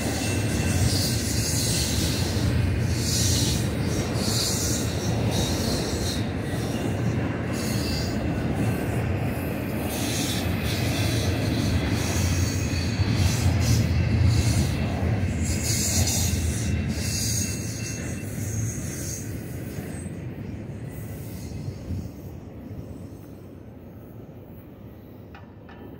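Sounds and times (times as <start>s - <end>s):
train wheels rumbling on track: 0.0s - 25.9s.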